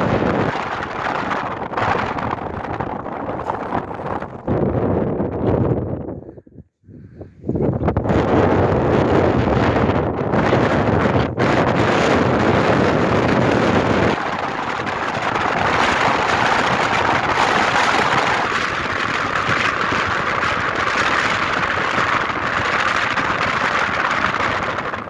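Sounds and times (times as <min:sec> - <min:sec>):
deep rumble: 0:00.0 - 0:25.0
wind buffeting microphone: 0:00.0 - 0:25.0.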